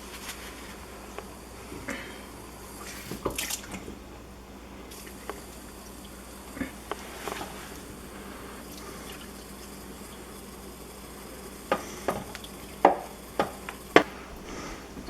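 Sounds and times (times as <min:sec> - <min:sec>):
soapy water running and fizzing: 0:00.0 - 0:15.0.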